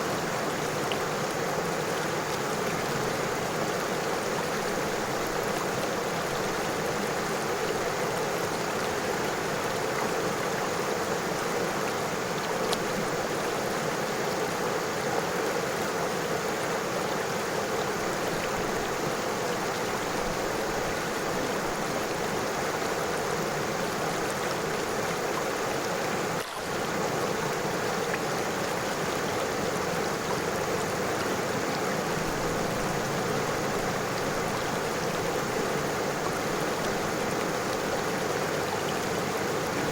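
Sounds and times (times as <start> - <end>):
river water splashing over stones: 0.0 - 39.9.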